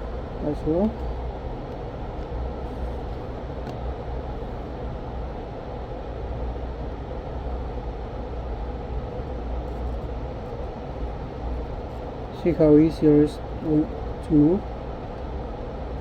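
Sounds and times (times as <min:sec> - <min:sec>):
fan blowing: 0:00.0 - 0:16.0.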